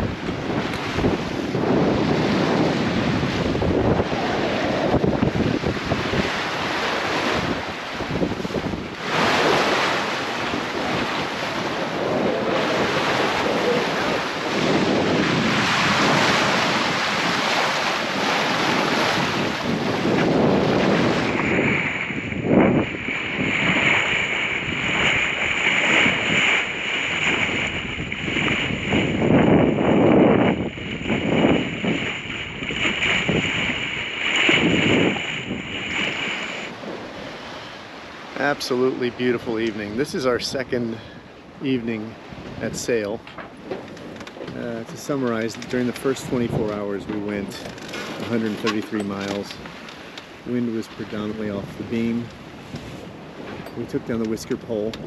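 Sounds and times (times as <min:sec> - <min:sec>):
water splashing along hull: 0:00.0 - 0:55.0
wind buffeting microphone: 0:00.0 - 0:55.0.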